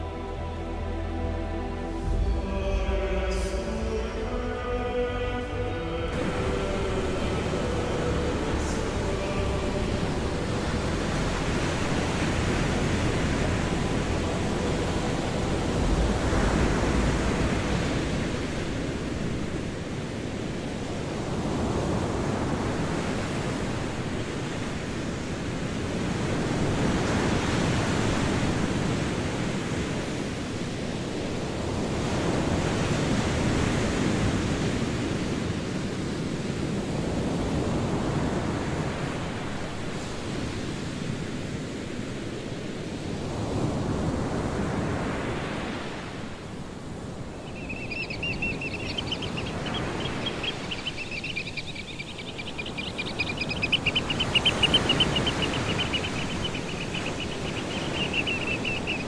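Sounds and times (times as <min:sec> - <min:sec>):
sea surf washing ashore: 0:01.8 - 0:59.0.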